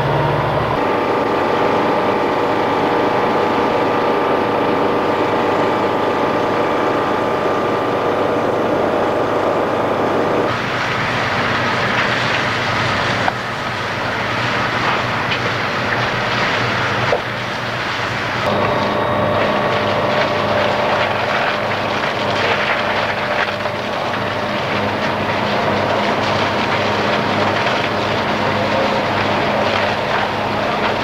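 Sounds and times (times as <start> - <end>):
fire engine humming: 0.0 - 31.0.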